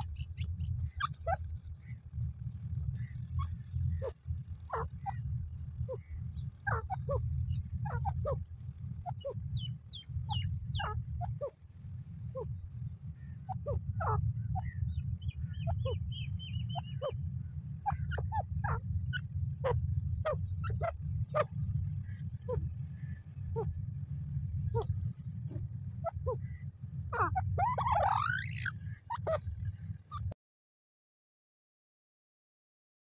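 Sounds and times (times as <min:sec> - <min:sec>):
francolin calling: 0:00.0 - 0:02.2, 0:02.8 - 0:23.8, 0:24.6 - 0:30.4
steady low rumble: 0:00.0 - 0:30.4.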